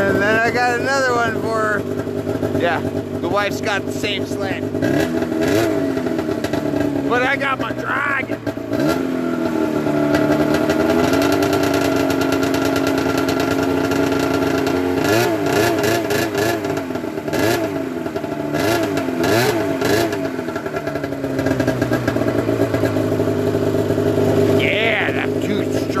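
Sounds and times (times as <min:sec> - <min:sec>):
snowmobile engine idling and revving: 0:00.0 - 0:26.0.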